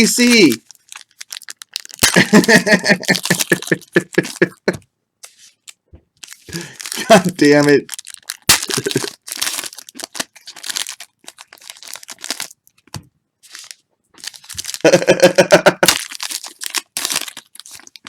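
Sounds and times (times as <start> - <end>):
card wrappers tearing and crinkling: 0.0 - 4.6, 5.2 - 18.0.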